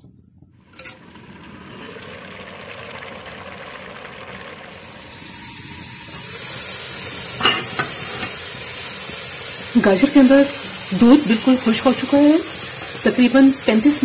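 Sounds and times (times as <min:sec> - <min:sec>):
food sizzling in a pot: 0:00.6 - 0:14.0.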